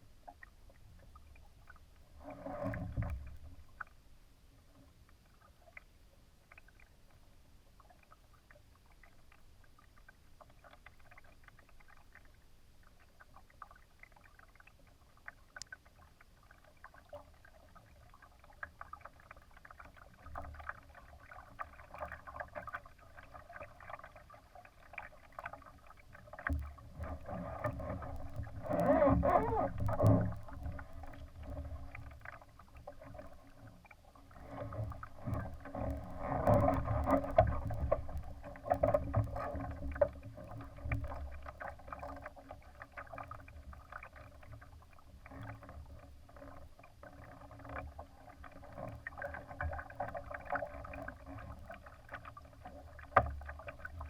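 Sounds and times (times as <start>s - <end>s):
water splashing against a boat hull: 0.0s - 4.0s, 4.7s - 54.0s.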